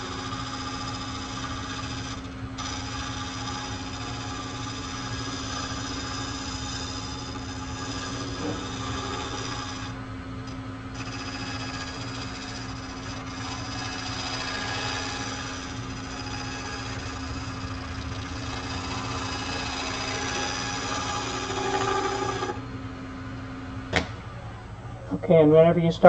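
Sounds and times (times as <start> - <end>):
lathe motor hum: 0.0 - 25.1.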